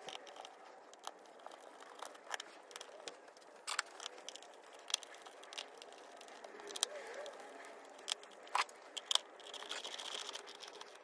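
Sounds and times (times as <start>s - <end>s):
small metallic clicks and taps: 0.0s - 11.0s.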